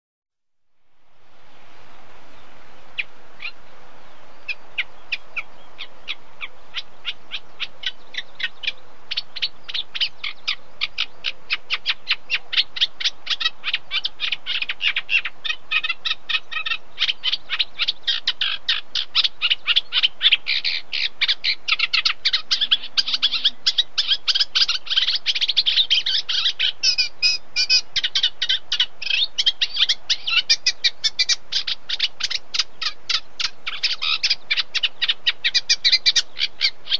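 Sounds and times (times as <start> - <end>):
background hiss: 0.6 - 36.9
bird chattering song: 3.0 - 36.9.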